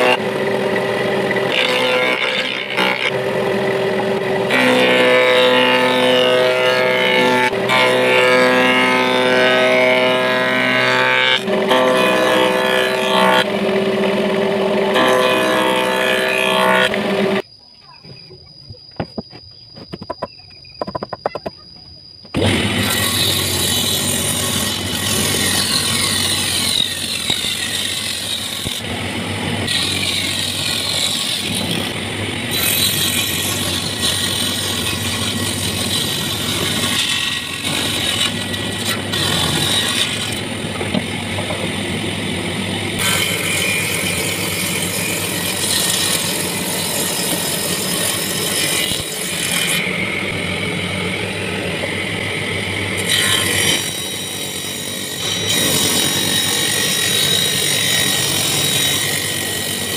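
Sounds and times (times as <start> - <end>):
saw blade cutting wood: 0.0 - 17.4, 22.4 - 59.9
table saw motor hum: 0.0 - 17.4, 22.4 - 59.9.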